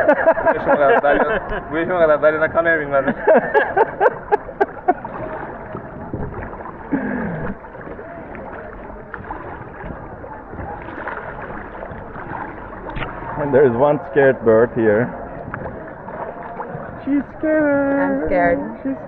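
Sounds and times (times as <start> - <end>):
kayak paddles splashing: 0.0 - 19.0
water gurgling around boat: 0.0 - 19.0.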